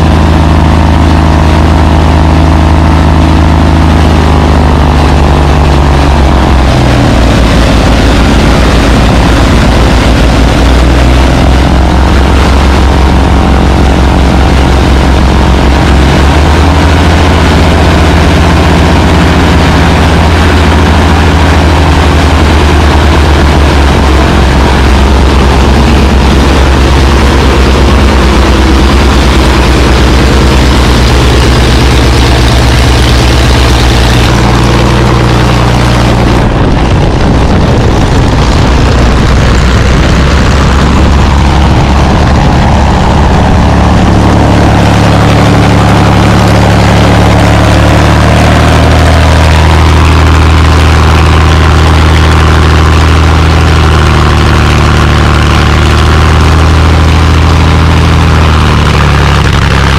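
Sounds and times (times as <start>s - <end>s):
piston aircraft engine running: 0.0s - 59.9s.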